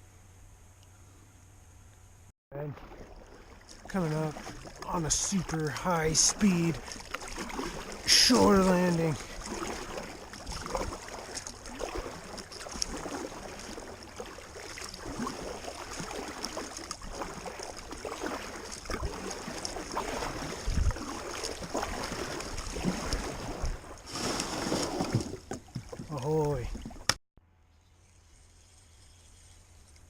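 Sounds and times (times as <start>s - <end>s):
paddle strokes splashing water: 2.5s - 27.2s.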